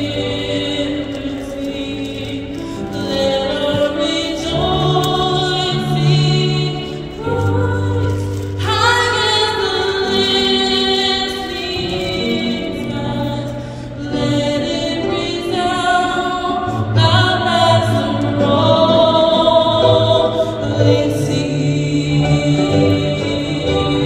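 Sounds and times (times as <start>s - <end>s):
amplified singing: 0.0s - 24.0s.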